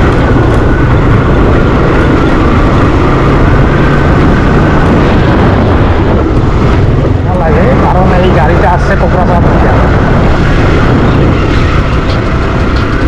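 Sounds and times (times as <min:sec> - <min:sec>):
motorcycle engine and road rumble: 0:00.0 - 0:13.0.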